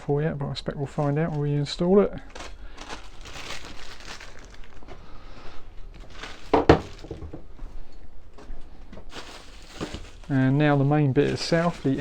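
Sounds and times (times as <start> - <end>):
rustling: 0.8 - 12.0.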